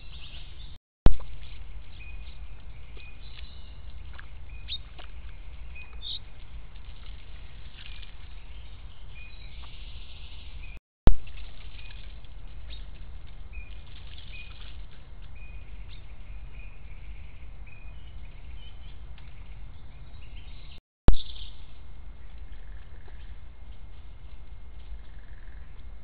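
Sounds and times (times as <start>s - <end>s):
small birds chirping: 0.0s - 23.5s.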